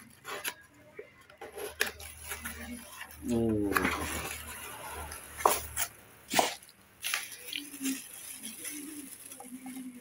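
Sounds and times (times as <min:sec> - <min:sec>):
plastic rustling: 0:00.0 - 0:10.0
plastic packaging crinkling: 0:01.4 - 0:10.0.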